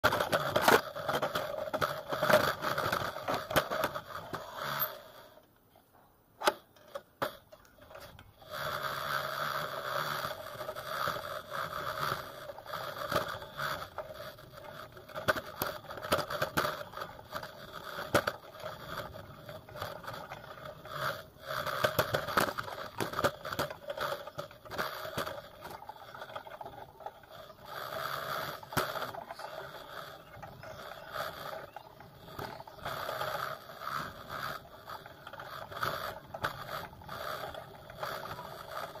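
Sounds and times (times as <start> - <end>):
bike rattling and clicking: 0.0 - 5.6, 6.4 - 39.0
bicycle rolling whirr: 0.0 - 39.0.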